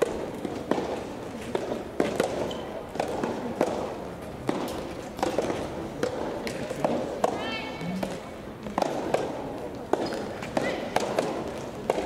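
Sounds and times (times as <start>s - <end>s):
tennis ball struck by rackets: 0.0s - 7.4s, 8.0s - 12.0s.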